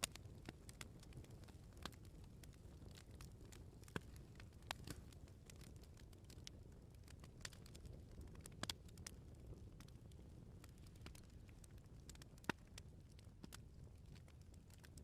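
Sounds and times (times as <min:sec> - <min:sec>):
firewood popping and snapping: 0:00.0 - 0:15.0.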